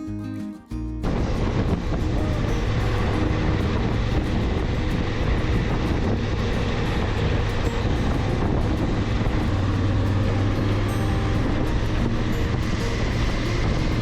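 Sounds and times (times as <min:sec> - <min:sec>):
wind noise on microphone: 0:00.7 - 0:14.0
motorcycle engine hum: 0:01.1 - 0:14.0.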